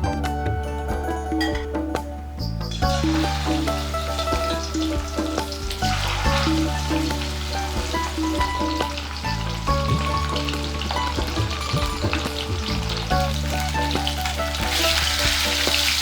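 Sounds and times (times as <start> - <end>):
background music: 0.0 - 16.0
food frying in hot oil: 2.7 - 16.0.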